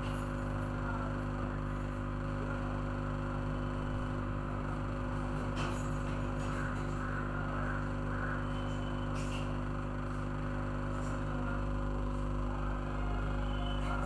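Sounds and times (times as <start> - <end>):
hot air rework station humming: 0.0 - 14.0.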